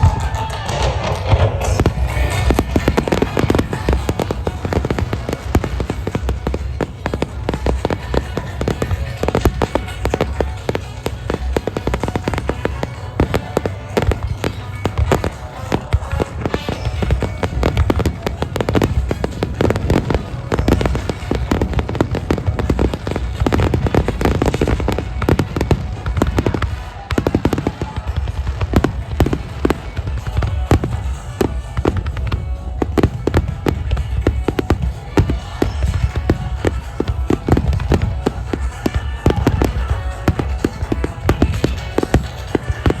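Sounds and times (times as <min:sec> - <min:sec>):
aerial fireworks bangs and crackles: 0:00.0 - 0:43.0
music playing: 0:00.0 - 0:43.0.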